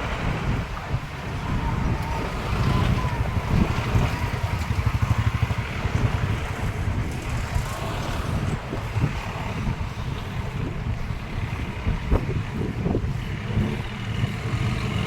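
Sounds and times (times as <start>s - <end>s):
vehicle rumble: 0.0s - 15.0s
wind buffeting microphone: 0.0s - 15.0s.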